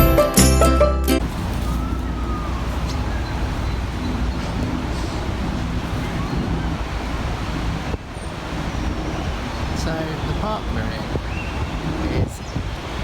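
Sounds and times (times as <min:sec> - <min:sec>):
low rumble of traffic: 0:01.2 - 0:13.0
wind on the microphone: 0:01.2 - 0:13.0.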